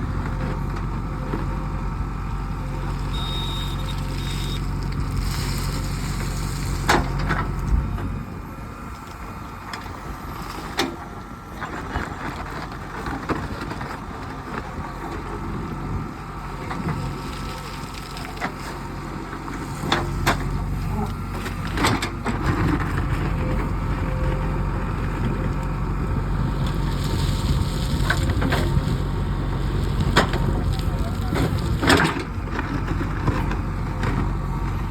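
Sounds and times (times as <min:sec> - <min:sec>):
diesel machinery running: 0:00.0 - 0:34.9.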